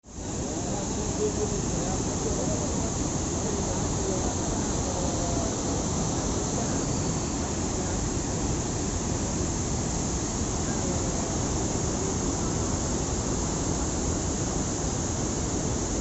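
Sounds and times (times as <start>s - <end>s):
water rushing over weir: 0.1s - 16.0s.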